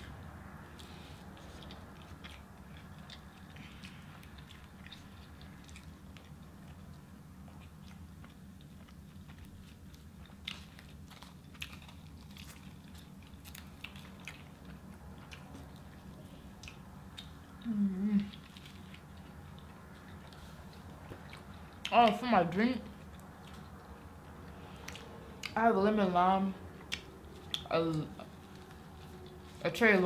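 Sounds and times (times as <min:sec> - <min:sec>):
people chewing: 0:00.0 - 0:22.2, 0:22.9 - 0:25.7, 0:26.7 - 0:29.7
steady low hum: 0:00.0 - 0:30.0.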